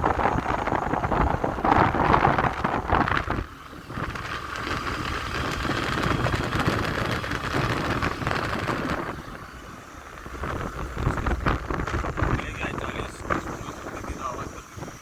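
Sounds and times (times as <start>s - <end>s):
rushing wind noise: 0.0s - 15.0s
scooter engine running: 0.0s - 15.0s.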